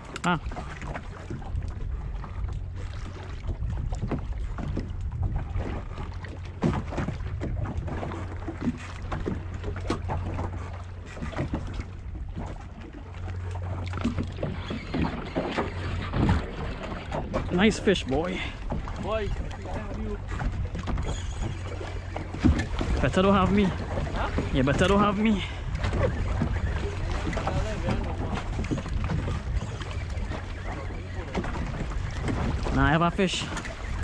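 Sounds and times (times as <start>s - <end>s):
water slapping against hull: 0.0s - 34.0s
wind buffeting microphone: 0.0s - 34.0s.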